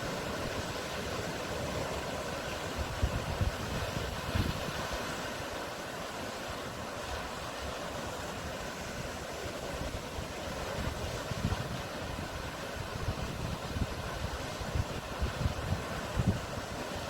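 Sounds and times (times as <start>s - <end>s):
wind buffeting microphone: 0.0s - 5.6s, 6.6s - 17.0s
sea waves washing: 0.0s - 17.0s.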